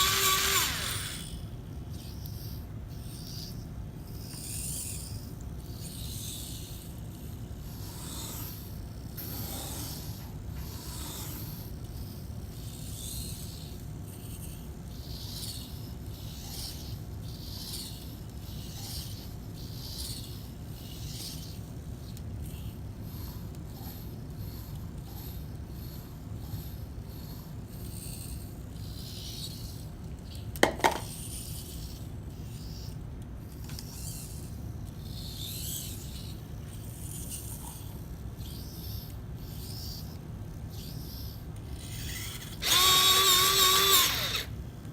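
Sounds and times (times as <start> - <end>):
pencil scratching strokes: 0.0 - 44.6.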